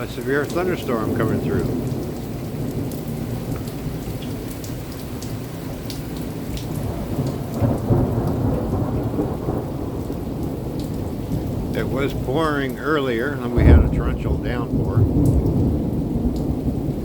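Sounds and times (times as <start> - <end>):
low rumble of thunder: 0.0 - 17.0
rain falling: 0.0 - 17.0.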